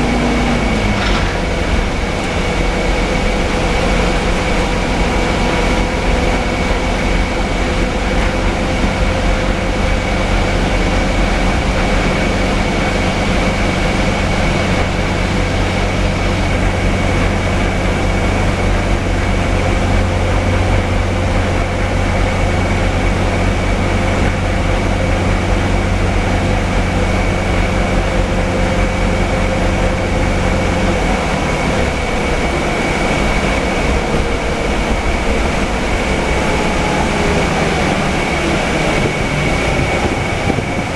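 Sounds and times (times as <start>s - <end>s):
bus engine drone: 0.0s - 40.9s
road noise: 0.0s - 40.9s
steady high whine: 0.0s - 40.9s.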